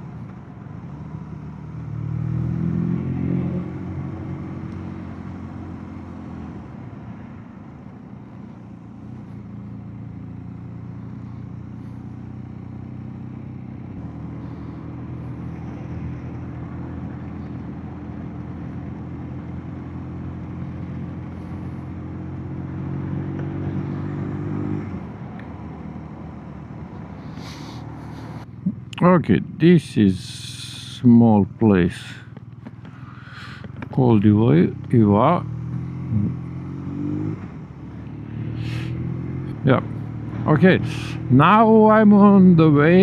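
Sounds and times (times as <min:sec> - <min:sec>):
motorcycle engine running: 0:02.8 - 0:43.0.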